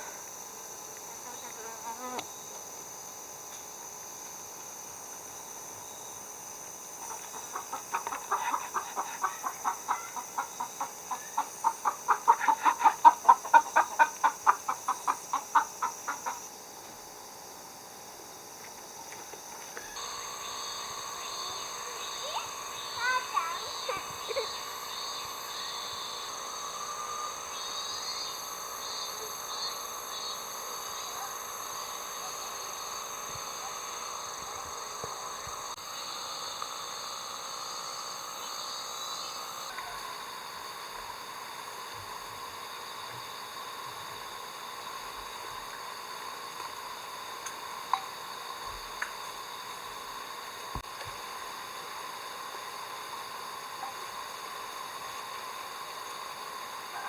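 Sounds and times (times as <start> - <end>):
insects chirping and buzzing: 0.0 - 57.0.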